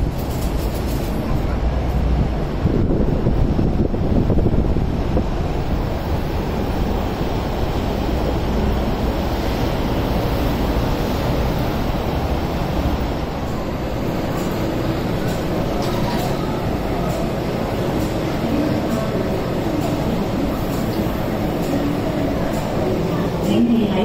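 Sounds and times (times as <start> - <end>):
wind buffeting microphone: 0.0 - 21.5
train rail rumble: 0.0 - 24.0.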